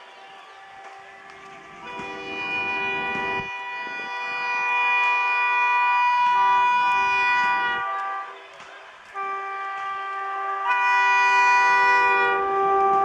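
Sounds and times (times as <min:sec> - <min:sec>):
locomotive two-tone horn: 0:00.0 - 0:13.0.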